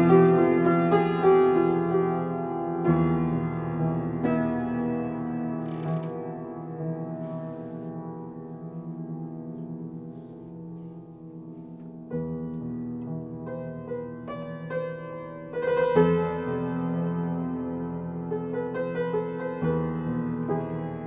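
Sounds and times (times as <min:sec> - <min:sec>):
solo piano chords: 0:00.0 - 0:21.0.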